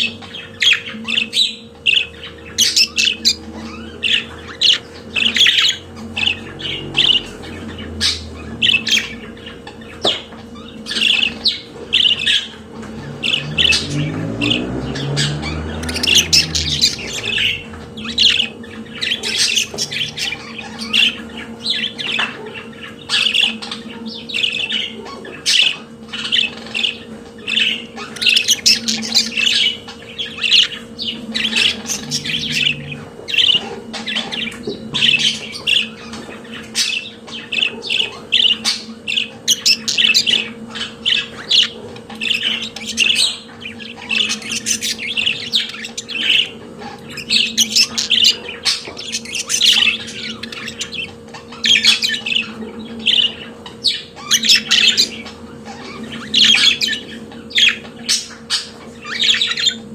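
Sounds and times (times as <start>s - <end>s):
budgerigars chirping and warbling: 0.0s - 59.9s
faint steady hum: 0.0s - 59.9s.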